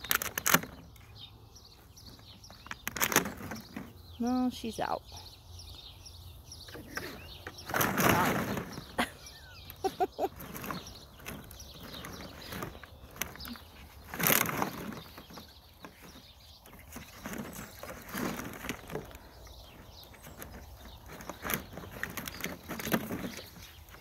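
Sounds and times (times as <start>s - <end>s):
plastic bottles crinkling: 0.0s - 1.1s, 2.0s - 4.1s, 6.7s - 24.0s.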